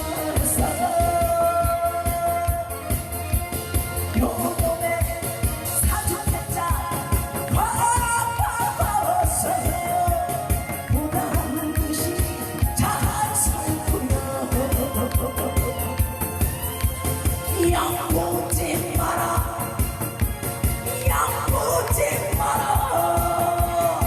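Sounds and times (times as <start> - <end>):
person singing: 0.0 - 3.4, 4.0 - 20.2, 20.8 - 24.0
backing music with steady beat: 0.0 - 24.0.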